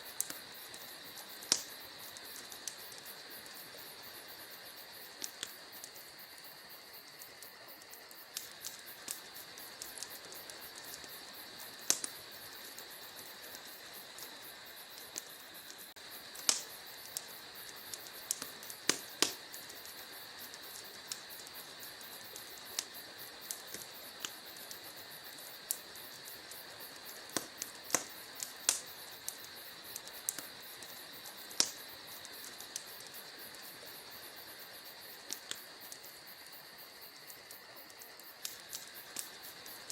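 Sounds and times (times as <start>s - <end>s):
fire pops and snaps: 0.0s - 39.9s
steady high hiss: 0.0s - 39.9s
wood fire crackling: 0.0s - 39.9s.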